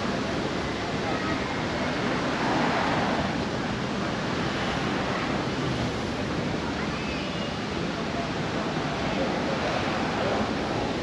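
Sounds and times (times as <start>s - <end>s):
city street ambience: 0.0s - 11.0s.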